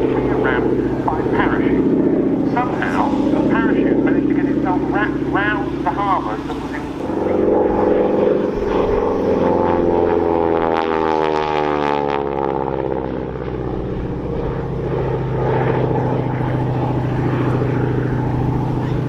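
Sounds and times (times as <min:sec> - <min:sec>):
propeller plane flyby: 0:00.0 - 0:19.0.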